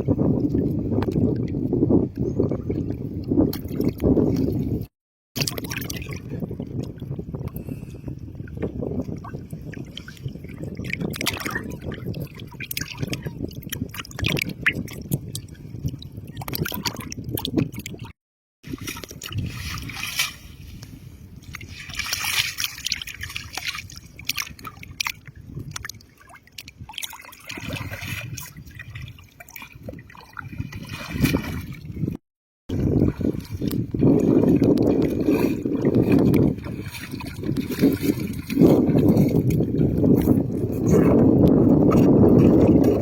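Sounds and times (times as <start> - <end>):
water sloshing and splashing: 0.0 - 43.0.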